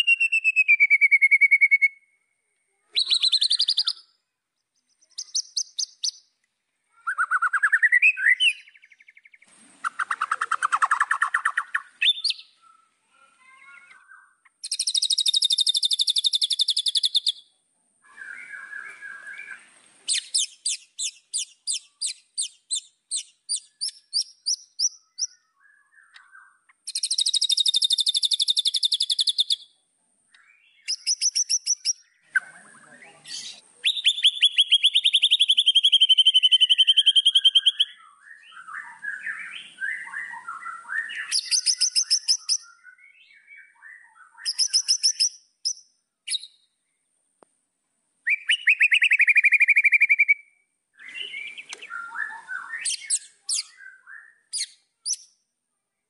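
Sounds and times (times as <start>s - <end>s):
songbird singing whistles and trills: 0.0s - 2.2s, 2.8s - 4.2s, 4.8s - 6.3s, 6.9s - 12.8s, 13.7s - 29.7s, 30.3s - 46.7s, 48.2s - 55.4s.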